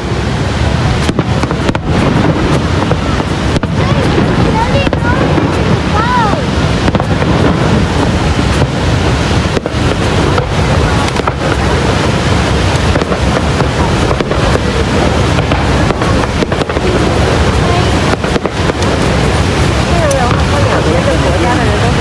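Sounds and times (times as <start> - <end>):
fireworks bangs: 0.0 - 22.0
waterfall roaring: 0.0 - 22.0.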